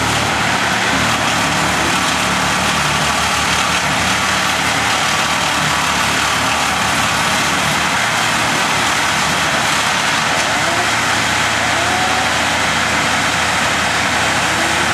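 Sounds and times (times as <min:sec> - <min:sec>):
heavy machinery engine drone: 0:00.0 - 0:14.9.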